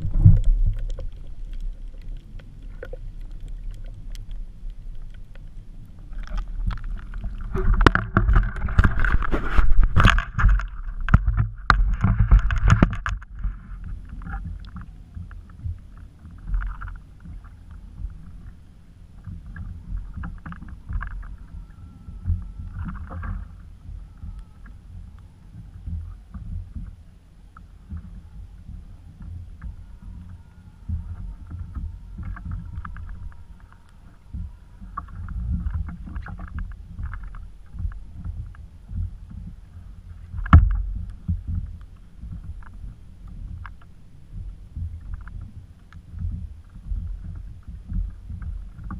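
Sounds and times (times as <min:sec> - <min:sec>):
water rumbling against kayak hull: 0:00.0 - 0:48.9
water splashing and sloshing: 0:00.0 - 0:48.9.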